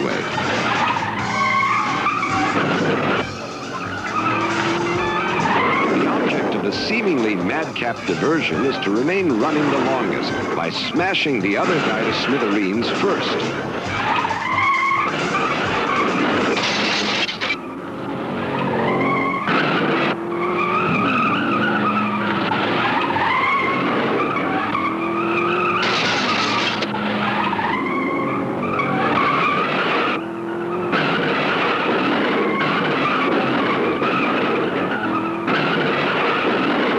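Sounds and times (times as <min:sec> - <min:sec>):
car engines revving: 0:00.0 - 0:36.9
tyres squealing and skidding: 0:00.0 - 0:36.9.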